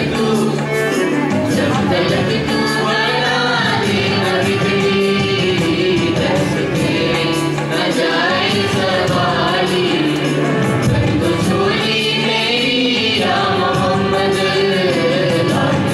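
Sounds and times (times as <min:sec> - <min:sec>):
group singing into microphones: 0:00.0 - 0:15.9
instrumental music with steady beat: 0:00.0 - 0:15.9.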